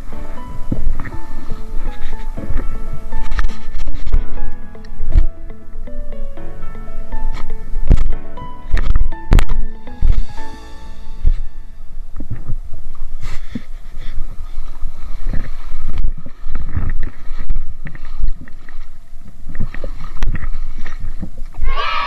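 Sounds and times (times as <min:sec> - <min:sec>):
wind and handling thumps on microphone: 0:00.0 - 0:05.5, 0:07.3 - 0:21.7
shallow water splashing: 0:00.0 - 0:05.8, 0:07.0 - 0:21.7.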